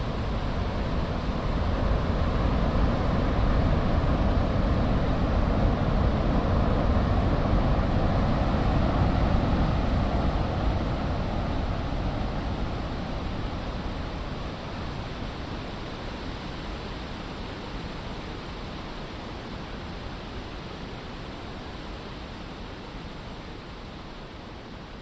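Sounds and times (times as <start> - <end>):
low steady rushing noise: 0.0 - 25.0.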